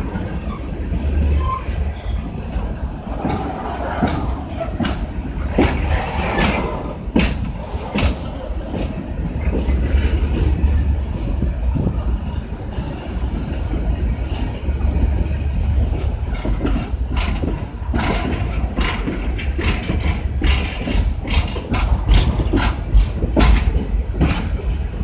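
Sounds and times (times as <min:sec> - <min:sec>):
metallic clanks of wheels on rails: 0:00.0 - 0:11.9, 0:15.0 - 0:25.0
freight train rumbling past: 0:00.0 - 0:25.0.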